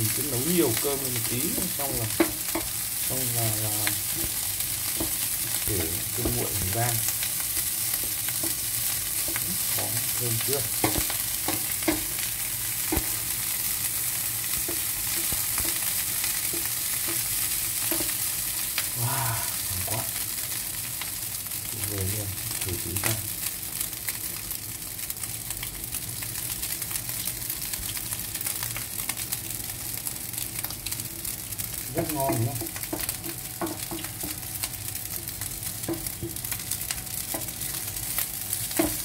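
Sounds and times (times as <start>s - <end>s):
fried rice sizzling in a frying pan: 0.0s - 39.0s.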